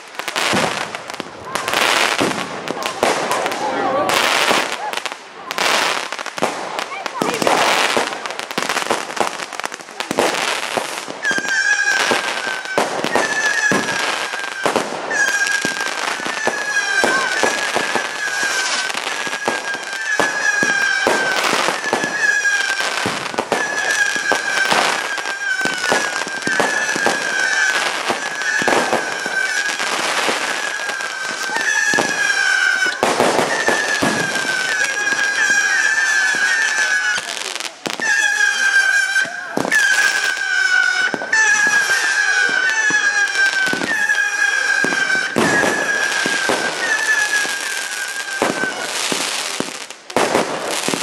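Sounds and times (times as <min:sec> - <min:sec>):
firework bangs and crackling: 0:00.0 - 0:51.0
firework whistles: 0:00.0 - 0:51.0.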